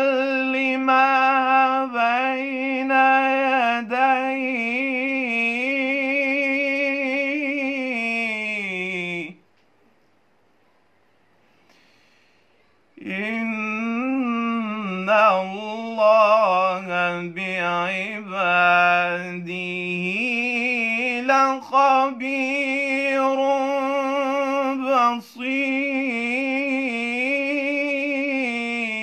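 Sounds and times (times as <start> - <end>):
man chanting melodically: 0.0 - 9.4, 13.0 - 29.0.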